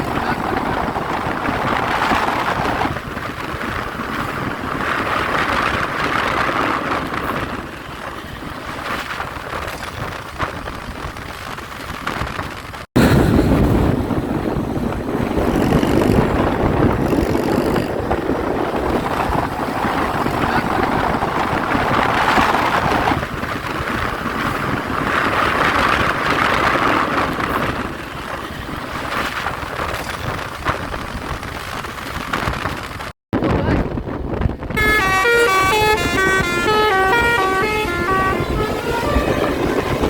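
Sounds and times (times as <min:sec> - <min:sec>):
road traffic: 0:00.0 - 0:33.1, 0:34.0 - 0:40.0
wind buffeting microphone: 0:00.0 - 0:40.0.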